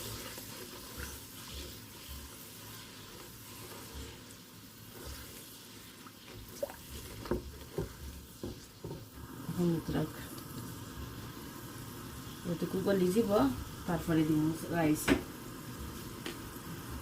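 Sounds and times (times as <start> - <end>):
pot hissing on stove: 0.0 - 17.0.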